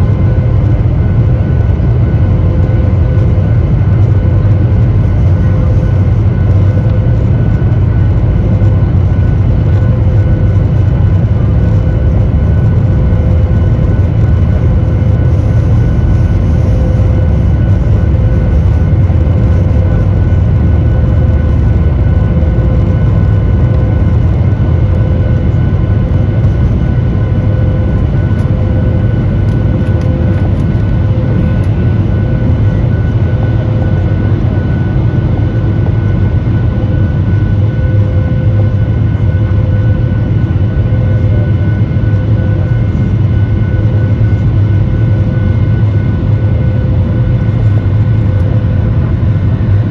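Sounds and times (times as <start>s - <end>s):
jet engine whining tones: 0.0s - 49.9s
jet engines rumbling: 0.0s - 49.9s.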